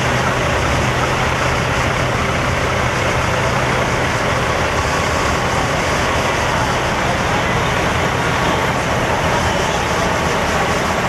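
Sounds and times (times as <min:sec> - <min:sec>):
diesel truck engines idling: 0:00.0 - 0:11.0.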